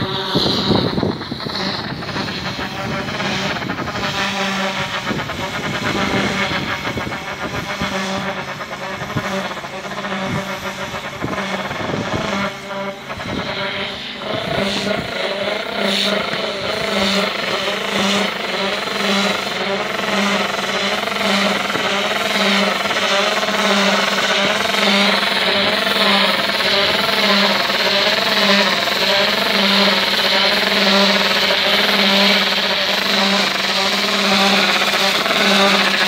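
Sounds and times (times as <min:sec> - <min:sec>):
machine running with low pulse: 0:00.0 - 0:36.0
wavering whine: 0:00.0 - 0:36.0.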